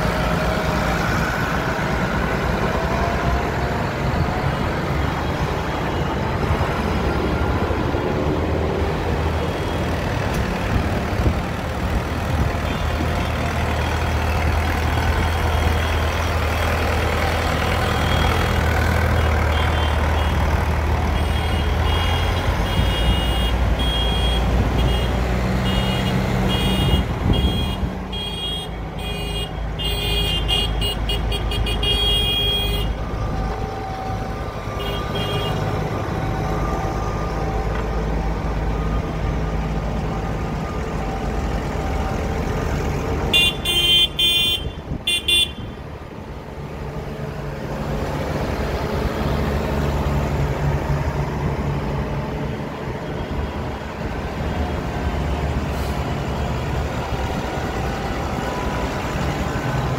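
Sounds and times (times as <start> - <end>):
diesel tractors driving past: 0.0 - 59.9.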